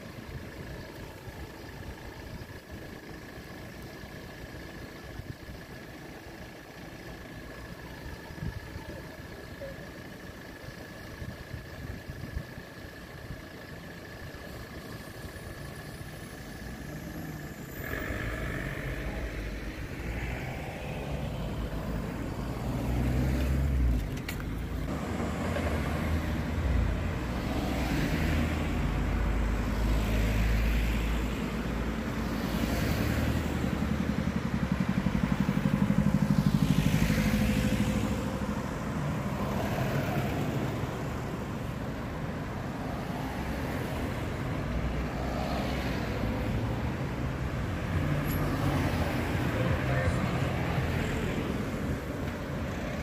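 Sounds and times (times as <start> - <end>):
vehicles passing: 0.0 - 53.0.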